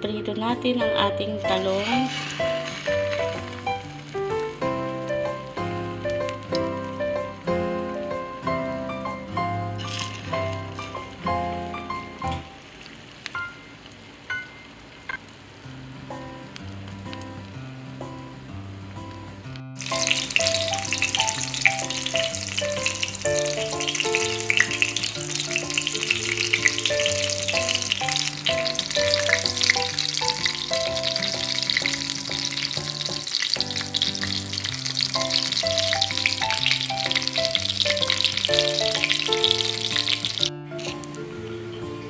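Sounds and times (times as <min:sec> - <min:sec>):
background music: 0:00.0 - 0:12.5, 0:16.0 - 0:42.0
eggplant sizzling in oil: 0:00.0 - 0:42.0.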